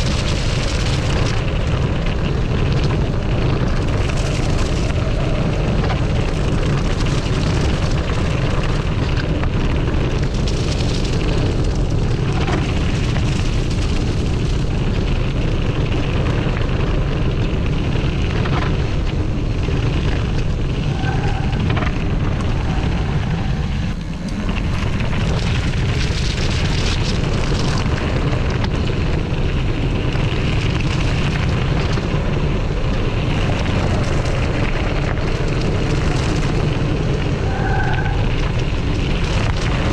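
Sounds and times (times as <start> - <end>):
bike tyres rumbling on gravel: 0.0 - 39.9
wind buffeting microphone: 0.0 - 39.9.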